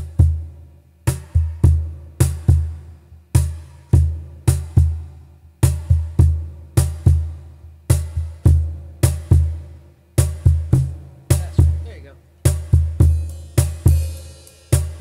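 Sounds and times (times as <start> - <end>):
looped drum beat: 0.0 - 15.0.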